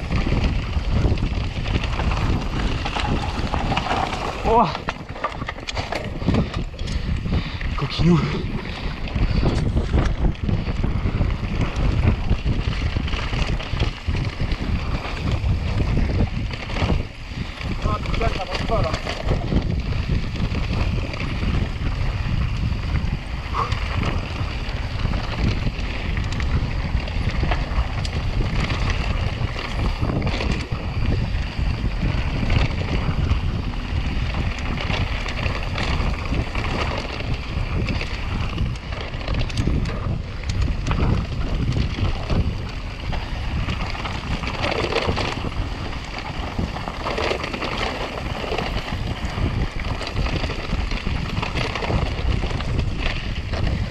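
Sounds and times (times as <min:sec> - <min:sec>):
bike clicks and rattles: 0:00.0 - 0:53.9
tyres rumbling on rough trail: 0:00.0 - 0:53.9
wind buffeting microphone: 0:00.0 - 0:53.9.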